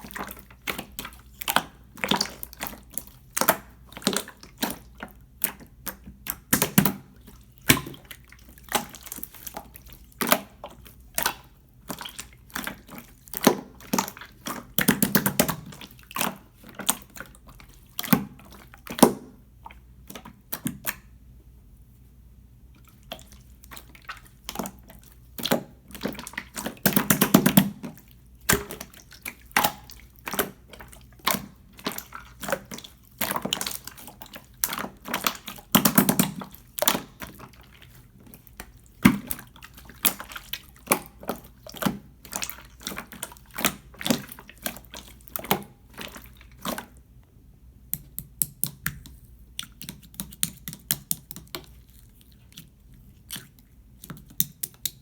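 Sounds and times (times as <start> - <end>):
slime squelching by hand: 0.0 - 55.0.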